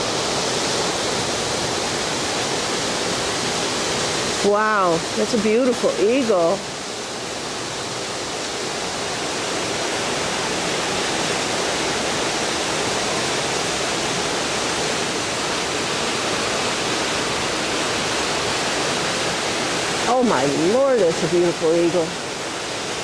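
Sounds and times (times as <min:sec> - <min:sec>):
falling water rushing: 0:00.0 - 0:23.0.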